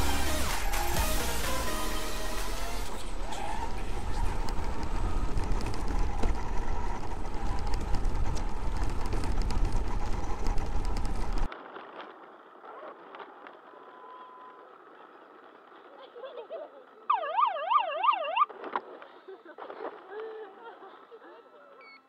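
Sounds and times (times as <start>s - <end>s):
rumble of wind and tyres: 0.0s - 21.2s.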